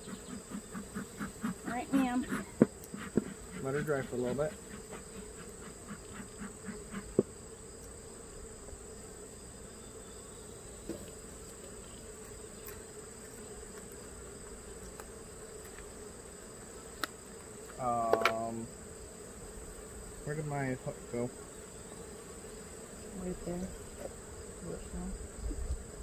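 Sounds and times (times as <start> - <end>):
bees buzzing: 0.0 - 26.0.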